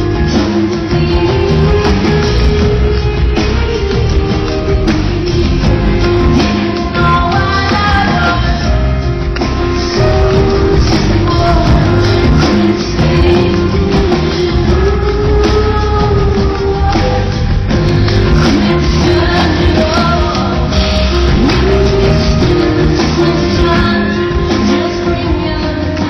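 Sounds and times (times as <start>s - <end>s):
rock band playing: 0.0s - 26.0s
woman singing: 0.0s - 26.0s.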